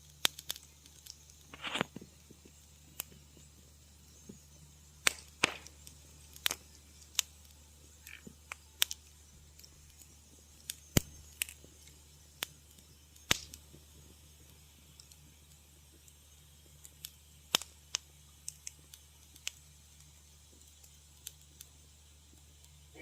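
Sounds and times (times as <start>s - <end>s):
wood fire snapping and popping: 0.0s - 23.0s.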